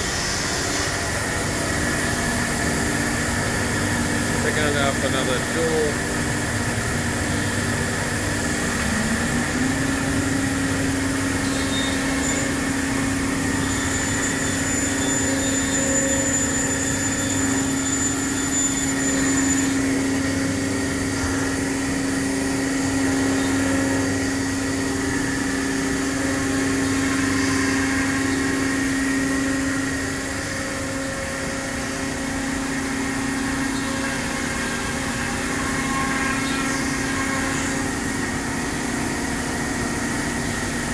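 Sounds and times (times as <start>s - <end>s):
machine hum: 0.0s - 40.9s
spindle whine: 0.0s - 40.9s.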